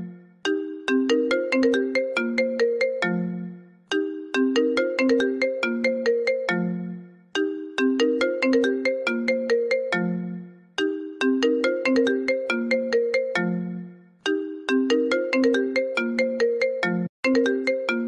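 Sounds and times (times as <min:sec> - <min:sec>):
phone ringtone melody: 0:00.0 - 0:18.0.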